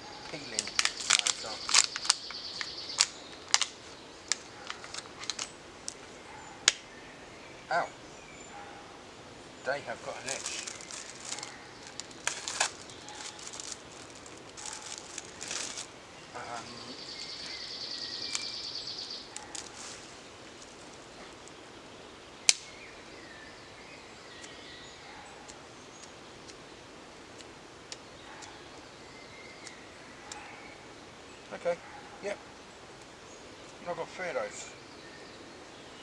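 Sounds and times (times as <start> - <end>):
bird chirps: 0.0 - 26.6, 27.4 - 36.0.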